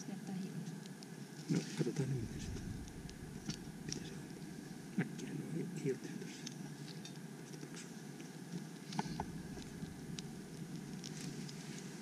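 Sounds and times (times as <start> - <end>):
fire crackling and snapping: 0.2 - 5.6, 6.2 - 12.0.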